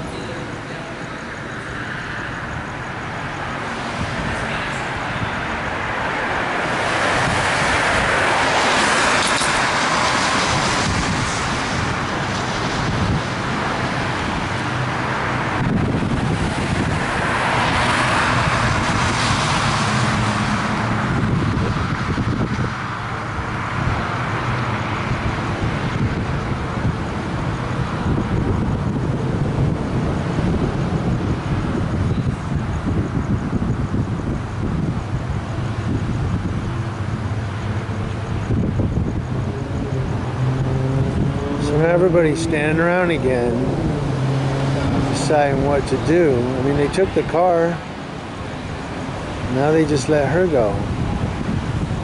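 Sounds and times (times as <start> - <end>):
vehicles passing: 0.0 - 52.0.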